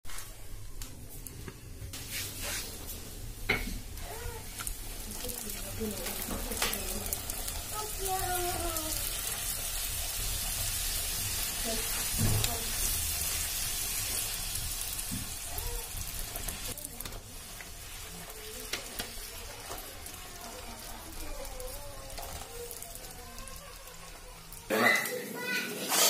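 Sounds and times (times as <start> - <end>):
food sizzling in hot oil: 1.9 - 26.0.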